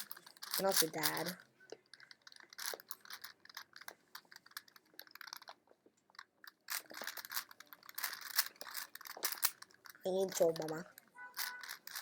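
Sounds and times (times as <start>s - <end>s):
puzzle cube layers clicking: 0.0s - 12.0s.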